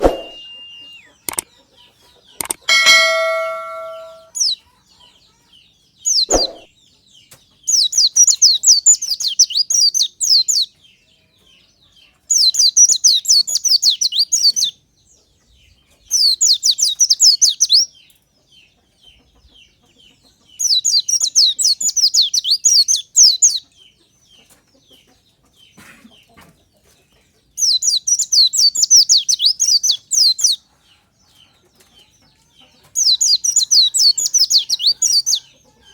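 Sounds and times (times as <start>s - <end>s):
bird twittering song: 0.0s - 5.1s, 5.7s - 25.8s, 27.1s - 35.9s.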